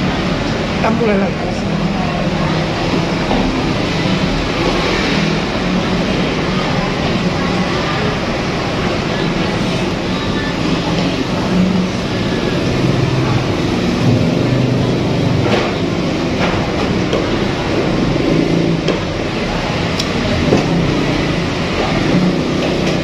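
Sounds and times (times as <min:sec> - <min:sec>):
loud rushing noise with hum: 0:00.0 - 0:23.0.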